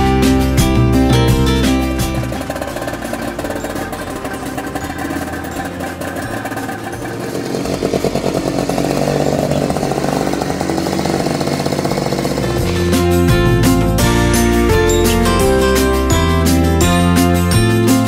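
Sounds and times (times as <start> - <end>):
snowmobile engine running: 1.1 - 18.0.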